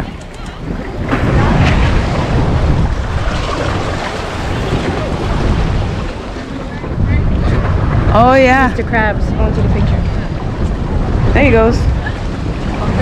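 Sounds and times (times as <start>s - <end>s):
heavy low rumble: 0.0s - 13.0s
sea waves washing: 0.0s - 13.0s
wind buffeting microphone: 0.0s - 13.0s.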